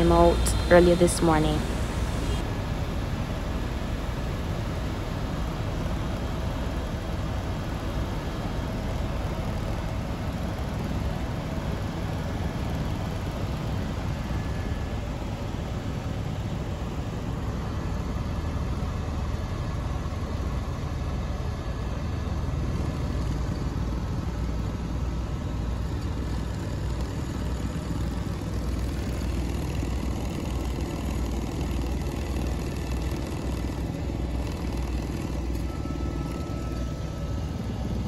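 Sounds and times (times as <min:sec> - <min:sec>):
faint steady whine: 0:00.0 - 0:38.0
helicopter rotor and engine drone: 0:00.0 - 0:38.0.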